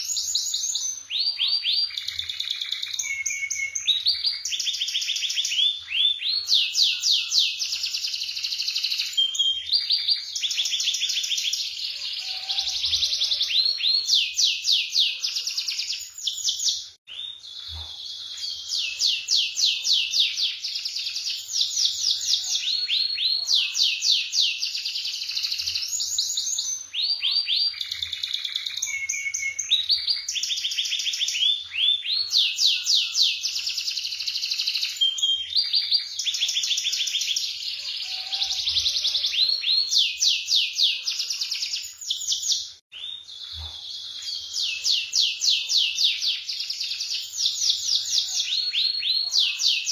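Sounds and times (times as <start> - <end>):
canary singing in rolling trills: 0.0 - 49.9.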